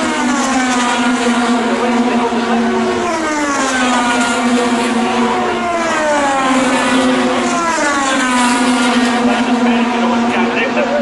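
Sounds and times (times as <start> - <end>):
race car engines at high revs: 0.0 - 11.0.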